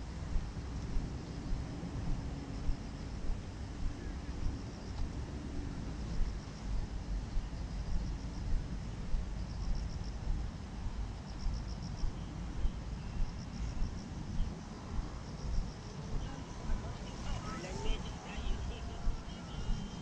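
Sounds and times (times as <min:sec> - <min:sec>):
insects chirping: 0:00.0 - 0:20.0
steady low rumble: 0:00.0 - 0:20.0.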